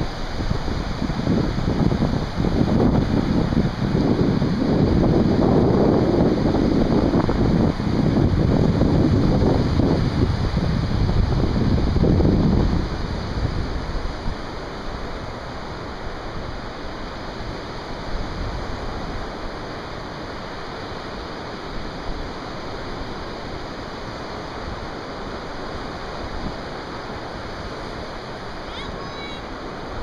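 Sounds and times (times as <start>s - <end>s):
surf washing onto beach: 0.0s - 30.0s
wind rumble on microphone: 0.0s - 30.0s.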